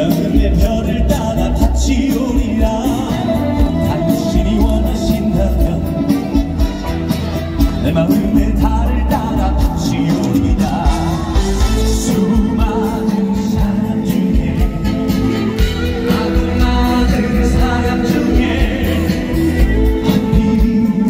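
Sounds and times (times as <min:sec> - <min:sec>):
amplified band with bass: 0:00.0 - 0:21.0
man singing: 0:00.0 - 0:21.0.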